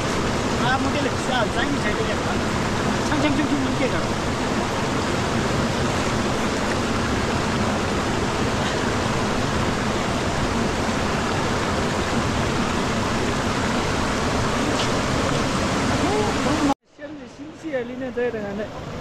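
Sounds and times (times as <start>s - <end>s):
river rushing over rocks: 0.0s - 16.8s.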